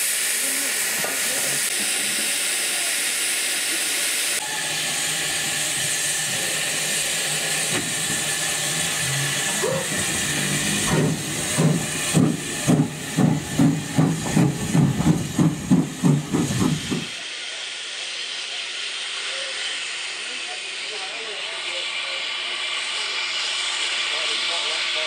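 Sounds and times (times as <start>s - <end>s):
steam locomotive exhaust chuffs: 0.0s - 25.0s
steam locomotive hissing: 0.0s - 25.0s.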